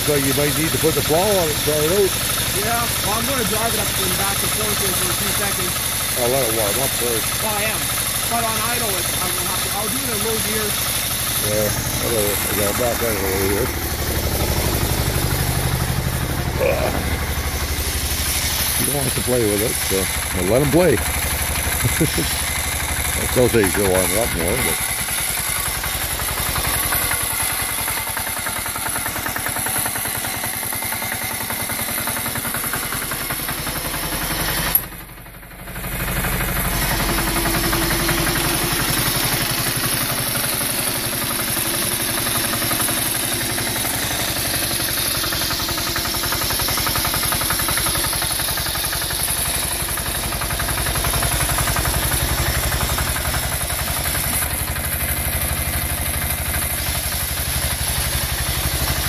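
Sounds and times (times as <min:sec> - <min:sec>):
small diesel engine idling: 0:00.0 - 0:59.0.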